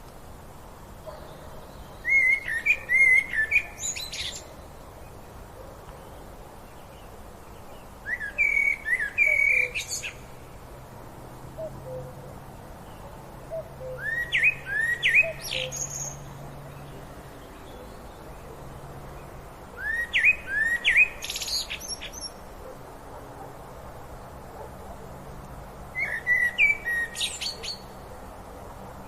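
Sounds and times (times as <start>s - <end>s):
songbird chirping: 0.0s - 10.8s, 11.5s - 23.5s, 24.5s - 28.3s
outdoor background hiss: 0.0s - 29.0s.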